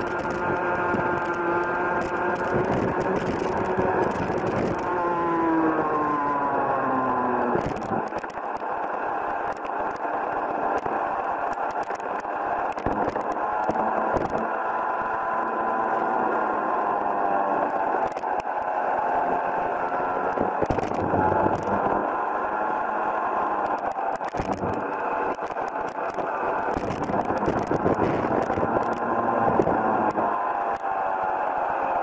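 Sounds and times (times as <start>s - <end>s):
kart engine running hard: 0.0s - 32.0s.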